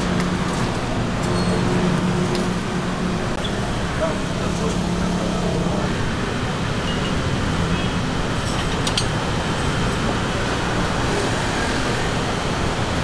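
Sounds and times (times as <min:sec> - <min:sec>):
street stall din: 0:00.0 - 0:13.0.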